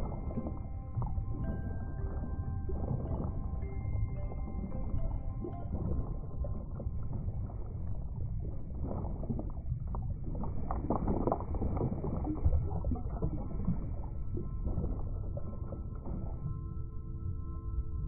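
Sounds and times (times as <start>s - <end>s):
underwater rumble of moving water: 0.0s - 18.0s
water bubbling and gurgling: 0.0s - 18.0s.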